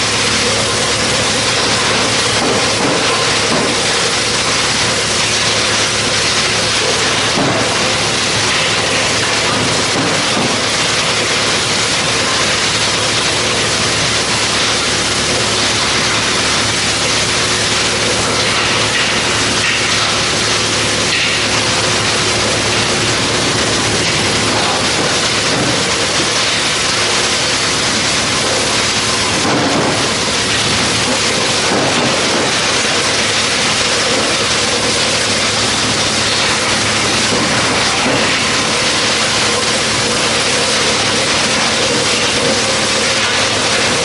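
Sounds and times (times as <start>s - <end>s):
wood chipper running: 0.0s - 44.0s.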